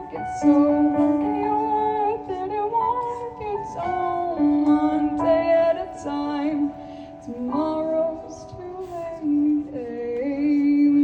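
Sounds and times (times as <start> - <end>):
soft instrumental accompaniment: 0.0 - 11.0.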